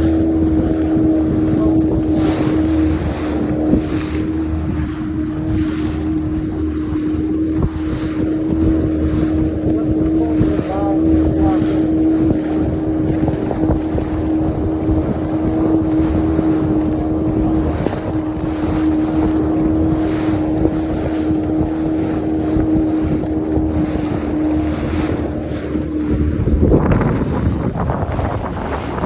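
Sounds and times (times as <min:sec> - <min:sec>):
boat motor running with whine: 0:00.0 - 0:29.0
wind buffeting microphone: 0:00.0 - 0:29.0.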